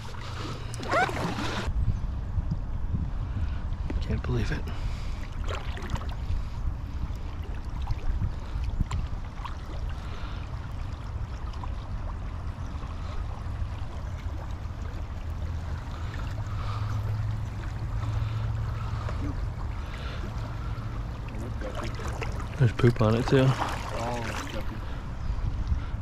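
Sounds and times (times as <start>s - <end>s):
water gurgling around canoe: 0.0s - 1.7s, 5.1s - 25.0s
steady low rumble: 0.0s - 26.0s.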